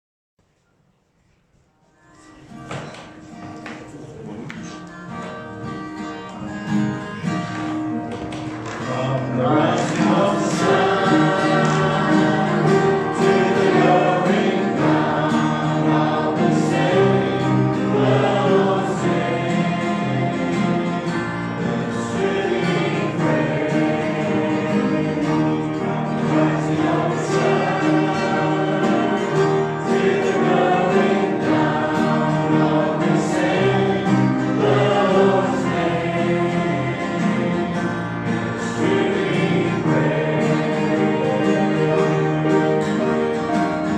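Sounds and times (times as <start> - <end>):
instrumental accompaniment: 2.6 - 43.9
choir singing a hymn: 6.4 - 43.9.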